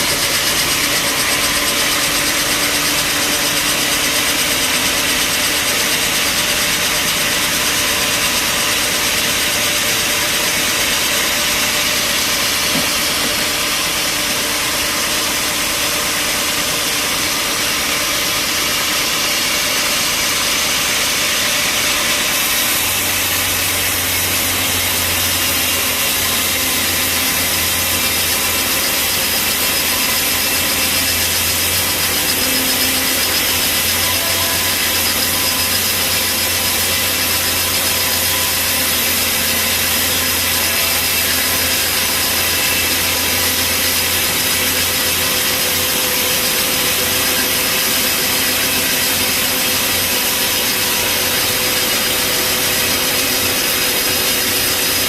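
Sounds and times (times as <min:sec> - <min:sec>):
bandsaw cutting log with whine: 0:00.0 - 0:55.0.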